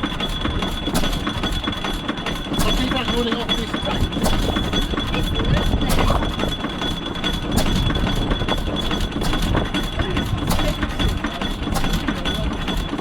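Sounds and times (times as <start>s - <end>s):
sharp engine knocks: 0.0s - 13.0s
stationary engine clatter: 0.0s - 13.0s.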